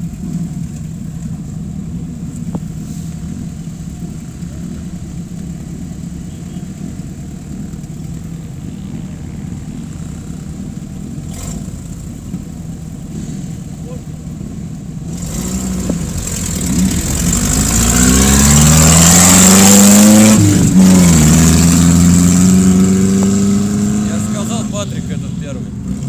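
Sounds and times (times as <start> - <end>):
off-road vehicles idling: 0.0 - 26.0.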